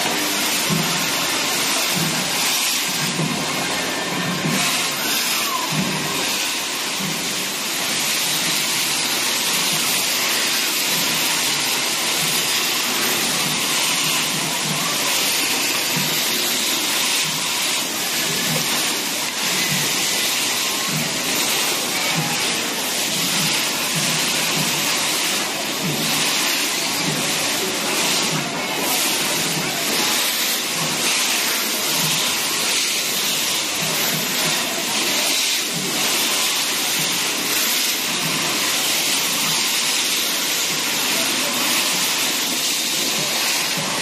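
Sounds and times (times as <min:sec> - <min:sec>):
firework fountains hissing: 0:00.0 - 0:44.0.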